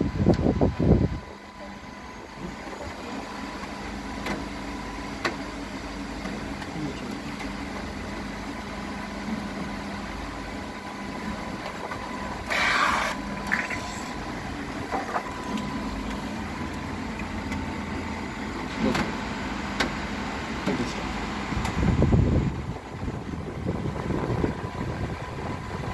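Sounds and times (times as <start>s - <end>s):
printer mechanical hum: 0.0s - 25.9s.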